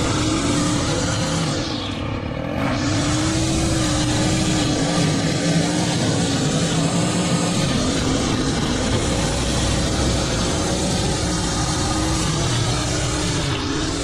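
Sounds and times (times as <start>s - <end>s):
small gasoline engine running: 0.0s - 14.0s.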